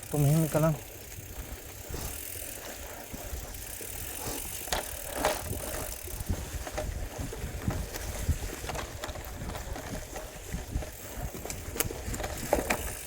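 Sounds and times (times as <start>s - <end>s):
bicycle tyre and drivetrain noise: 0.0s - 13.0s.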